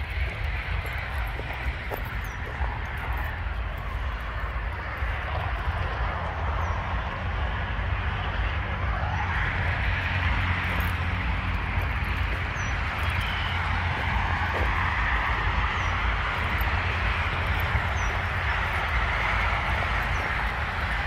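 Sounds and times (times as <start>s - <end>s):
road traffic hiss: 0.0s - 21.0s
wind rumble on microphone: 0.0s - 21.0s.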